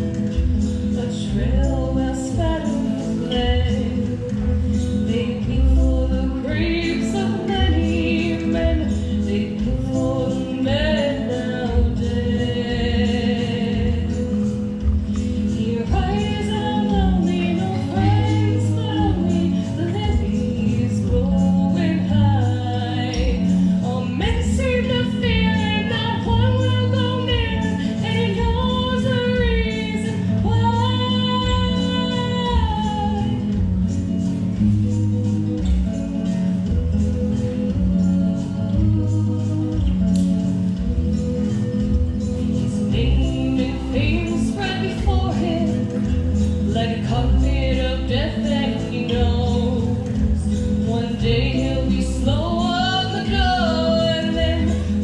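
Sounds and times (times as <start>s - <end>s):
backing music: 0.0s - 55.0s
instrumental accompaniment: 0.0s - 55.0s
woman singing a slow ballad: 0.3s - 34.2s, 37.6s - 41.0s, 42.5s - 55.0s.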